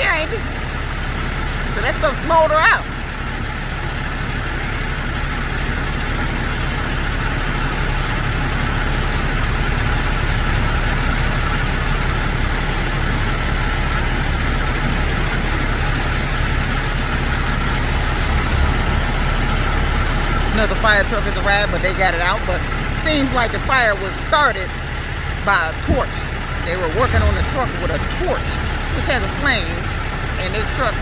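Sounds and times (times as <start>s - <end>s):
heavy truck engine idling: 0.0s - 31.0s.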